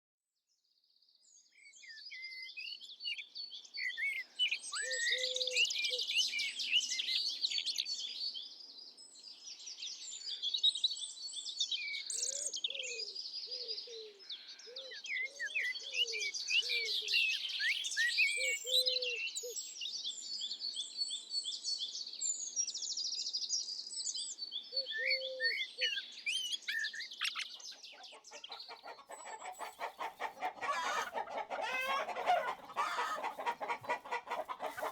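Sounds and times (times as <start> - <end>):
songbirds chorus: 1.2 - 34.9.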